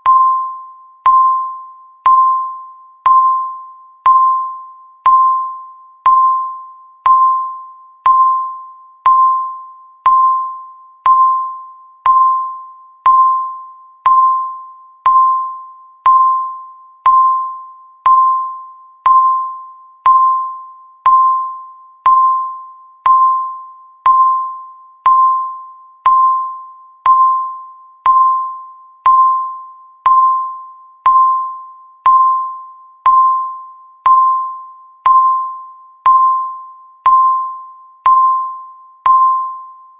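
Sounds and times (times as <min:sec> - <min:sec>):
bell-like electronic timer tick: 0:00.0 - 0:39.9.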